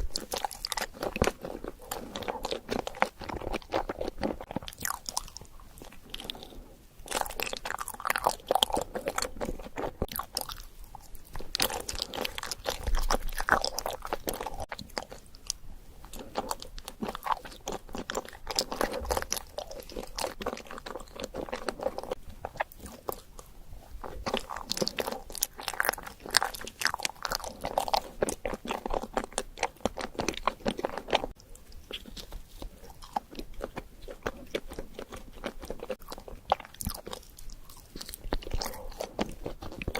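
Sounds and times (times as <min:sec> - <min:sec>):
bites and chewing: 0:00.0 - 0:39.9.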